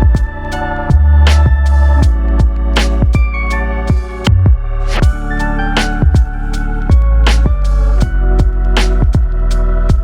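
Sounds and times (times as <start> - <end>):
music with deep bass and drums: 0.0 - 10.0.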